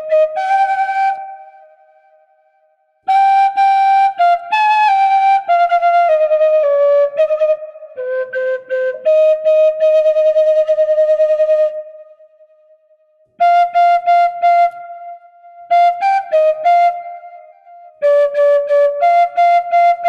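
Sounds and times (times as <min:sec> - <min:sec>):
bamboo flute solo melody: 0:00.0 - 0:02.1, 0:03.1 - 0:12.2, 0:13.4 - 0:20.0.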